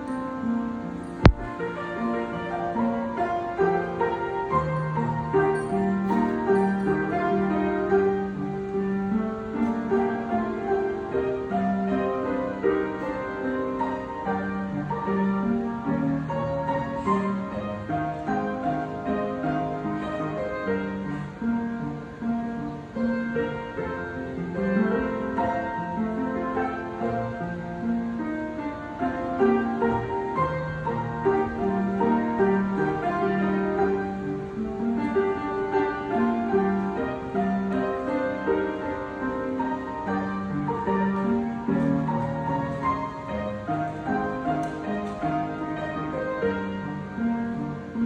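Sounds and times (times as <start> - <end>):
piano melody over chords: 0.0 - 48.0.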